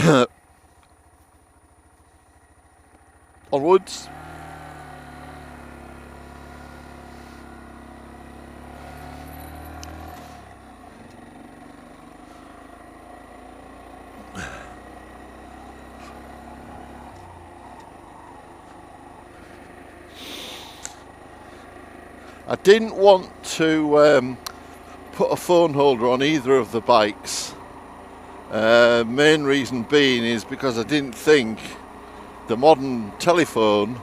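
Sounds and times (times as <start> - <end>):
motorcycle engine pulling away: 0.0 - 34.0.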